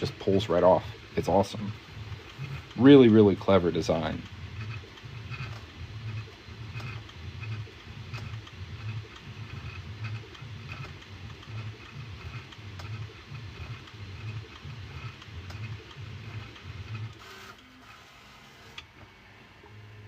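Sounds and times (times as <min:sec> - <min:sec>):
print head ticking: 0:00.0 - 0:17.4
stepper motors humming in pulses: 0:00.0 - 0:20.0.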